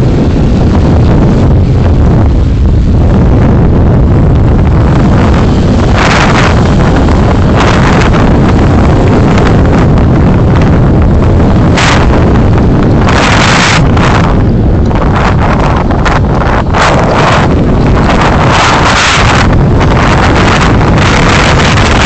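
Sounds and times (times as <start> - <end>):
car road and wind rumble: 0.0 - 22.0.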